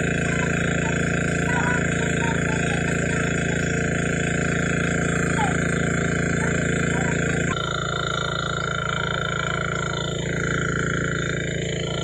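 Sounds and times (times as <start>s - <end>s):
electric buzz: 0.0s - 12.0s.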